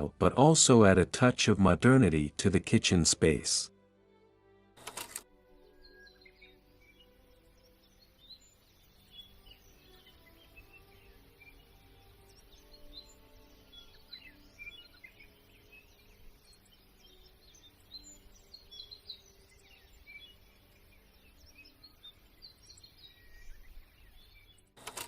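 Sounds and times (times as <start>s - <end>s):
faint birds chirping: 0.0s - 3.7s, 4.8s - 25.0s.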